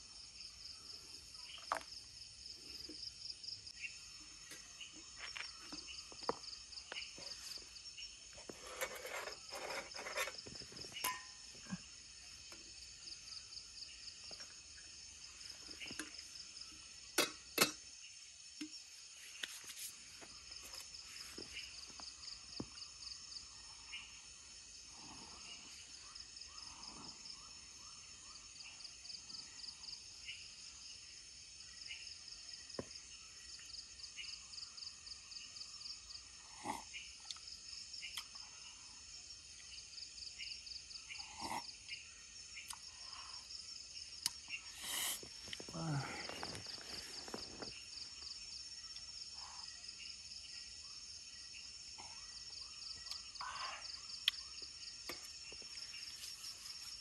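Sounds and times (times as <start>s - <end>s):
insects chorus trilling: 0.0s - 57.0s.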